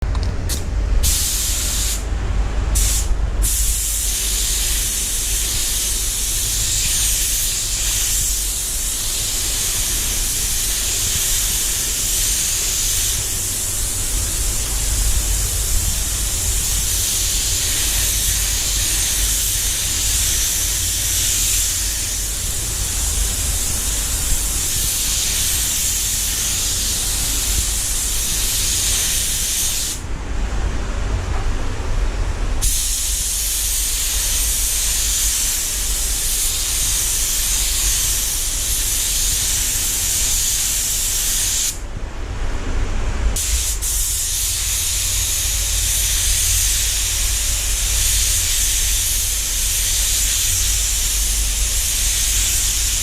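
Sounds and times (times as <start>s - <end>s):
spray gun hissing: 0.5s - 2.0s, 2.8s - 30.0s, 32.6s - 41.8s, 43.4s - 53.0s.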